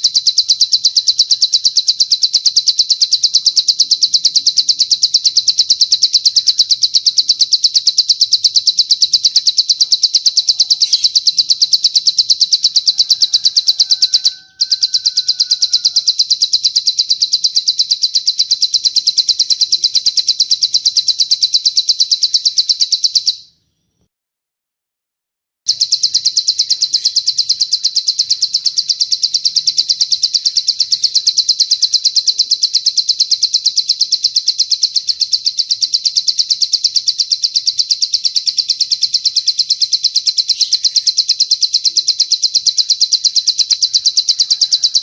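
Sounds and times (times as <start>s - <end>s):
bird trilling: 0.0s - 23.9s, 25.7s - 45.0s.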